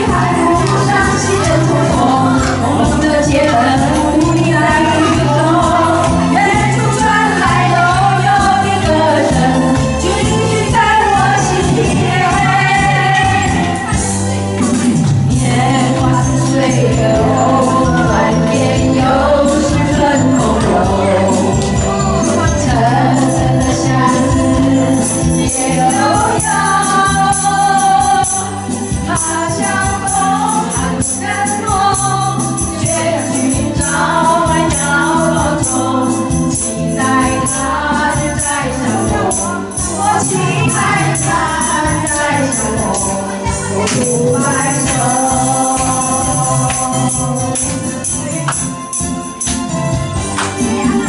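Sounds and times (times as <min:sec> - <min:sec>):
women singing together: 0:00.0 - 0:49.0.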